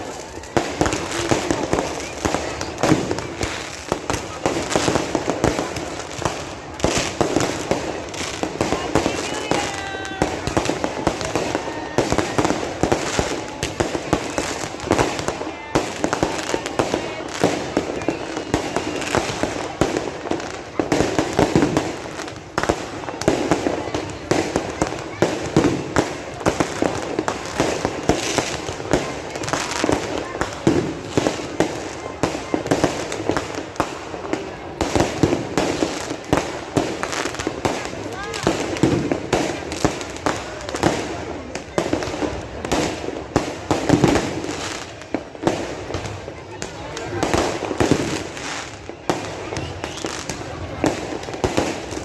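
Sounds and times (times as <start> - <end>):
fireworks exploding: 0.0 - 52.0.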